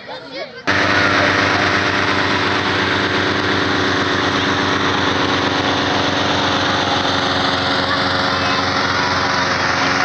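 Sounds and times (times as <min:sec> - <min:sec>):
inflator fan engine running: 0:00.6 - 0:10.0.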